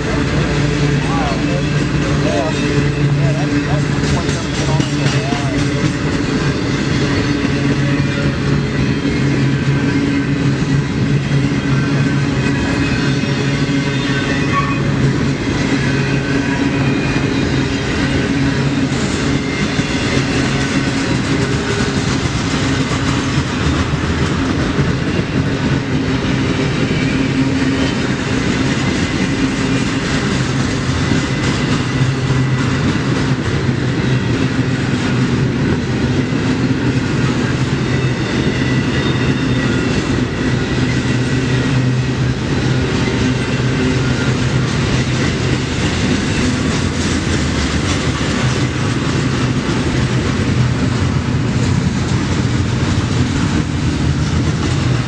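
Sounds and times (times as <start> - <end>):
freight train cars rolling past: 0.0 - 55.0.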